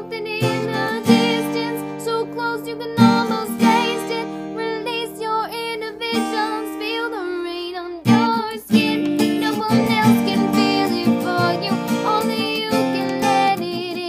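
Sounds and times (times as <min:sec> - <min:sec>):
strummed acoustic guitar: 0:00.0 - 0:14.0
woman singing: 0:00.0 - 0:14.0.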